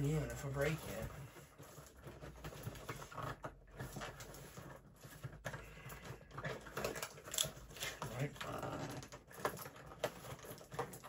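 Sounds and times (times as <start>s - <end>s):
cardboard box being handled: 0.0s - 11.0s.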